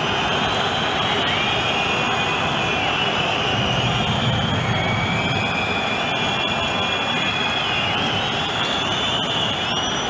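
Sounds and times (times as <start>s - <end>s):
stadium crowd noise: 0.0s - 10.0s.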